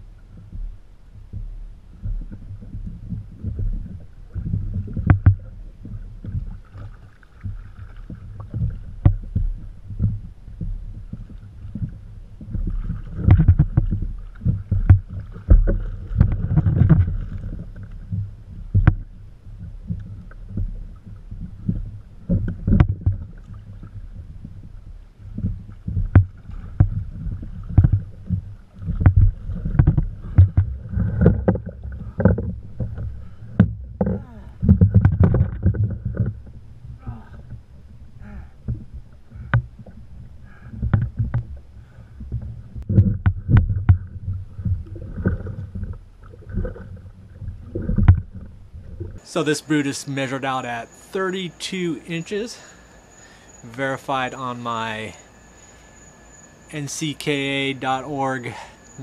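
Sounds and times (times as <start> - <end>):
water splashing against kayak hull: 0.0 - 59.0
knocks and clicks on boat: 0.2 - 38.0, 38.6 - 49.2.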